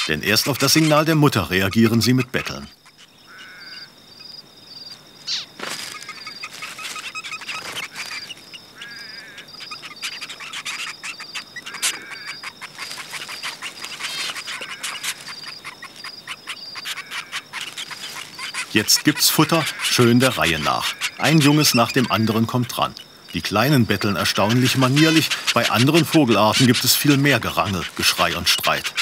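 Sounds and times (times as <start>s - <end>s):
finch short calls: 0.0s - 3.9s, 5.2s - 29.0s
insect chirping: 0.0s - 29.0s
nestlings begging calls: 0.0s - 29.0s.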